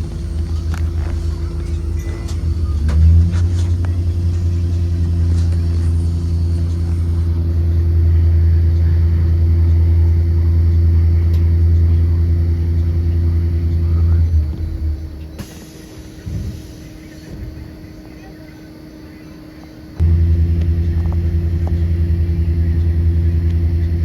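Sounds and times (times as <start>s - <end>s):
bus engine low drone: 0.0s - 24.0s.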